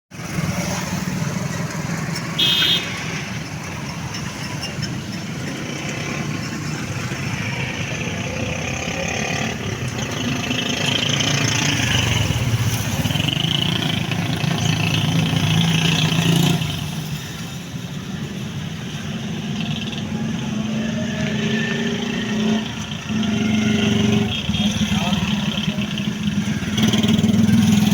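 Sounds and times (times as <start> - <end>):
traffic passing: 0.1 - 27.9.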